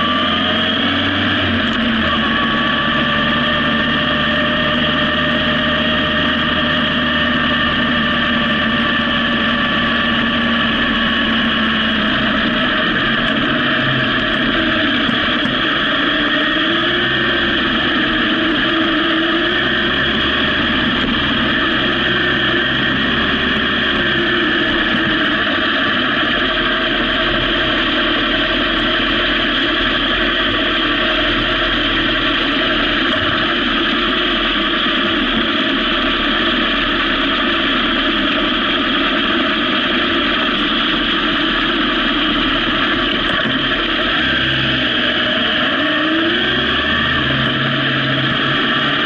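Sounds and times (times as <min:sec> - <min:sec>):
motorcycle engine running: 0:00.0 - 0:49.0
steady rushing noise: 0:00.0 - 0:49.0.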